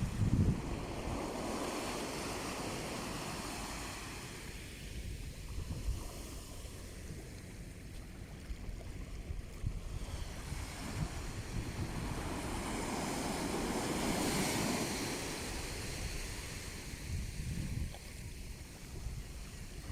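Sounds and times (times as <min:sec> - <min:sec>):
sea waves washing ashore: 0:00.0 - 0:19.9
wind rumble on microphone: 0:00.0 - 0:19.9.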